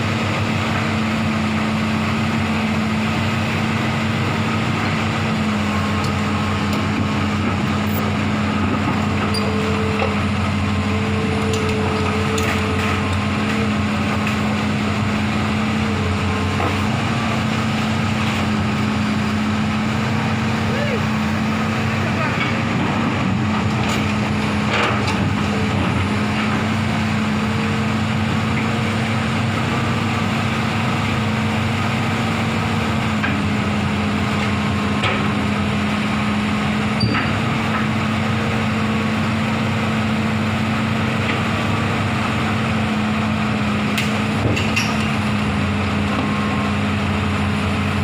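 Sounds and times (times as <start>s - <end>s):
large engine humming: 0.0s - 48.0s.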